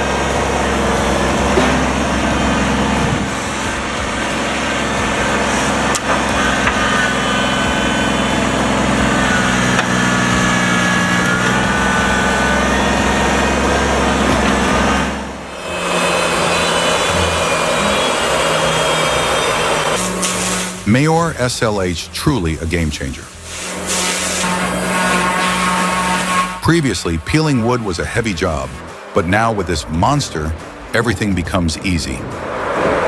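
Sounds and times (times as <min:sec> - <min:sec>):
machine engine running: 0:00.0 - 0:33.0
thin whine: 0:00.0 - 0:33.0.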